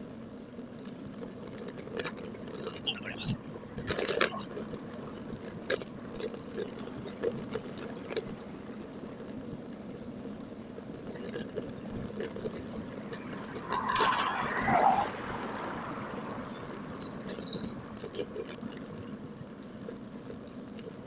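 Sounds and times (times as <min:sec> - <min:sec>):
bike clicks and rattles: 0:00.0 - 0:21.0
road and wind noise: 0:00.0 - 0:21.0.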